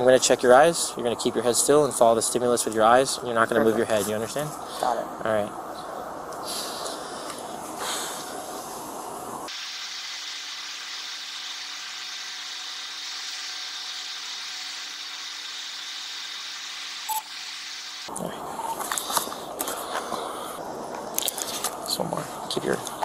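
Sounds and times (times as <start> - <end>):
faint outdoor background: 0.0 - 23.0
steady hiss: 0.0 - 23.0.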